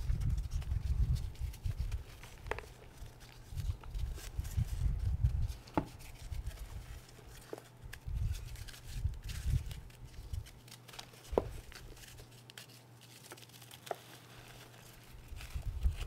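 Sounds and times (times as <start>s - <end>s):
grainy rustle: 0.0s - 16.0s.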